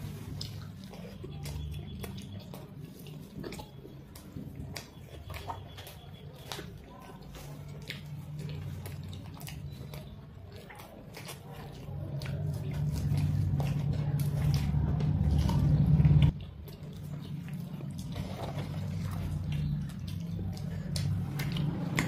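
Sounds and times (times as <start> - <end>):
chewing and mouth sounds: 0.0 - 22.0.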